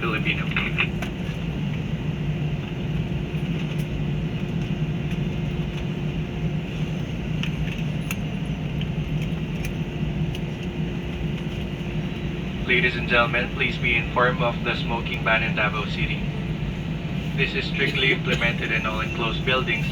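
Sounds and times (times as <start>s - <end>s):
airliner engines and cabin air hum: 0.0s - 19.9s.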